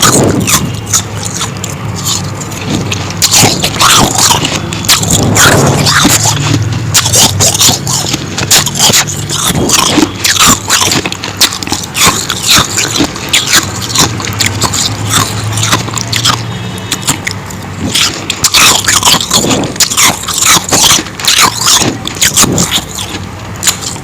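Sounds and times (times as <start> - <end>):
crunching and chewing ice: 0.0 - 24.0.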